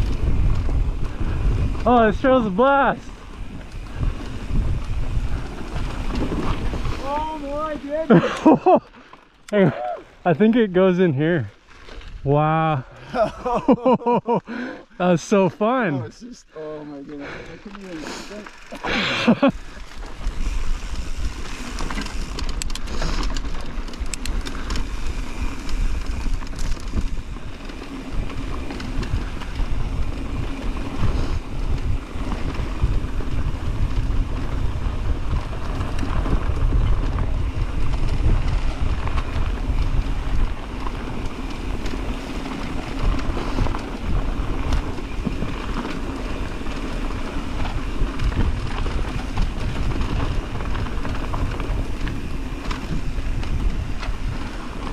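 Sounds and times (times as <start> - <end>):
wind buffeting microphone: 0.0 - 8.8, 18.5 - 54.9
bike clicks and rattles: 0.0 - 9.7, 10.3 - 12.3, 16.7 - 54.9
tyres crunching on loose dirt: 0.0 - 54.9.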